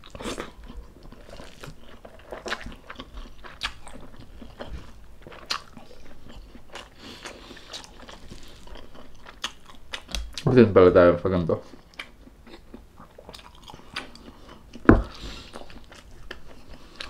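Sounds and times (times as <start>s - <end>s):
chewing and biting food: 0.0s - 10.5s, 11.6s - 17.0s.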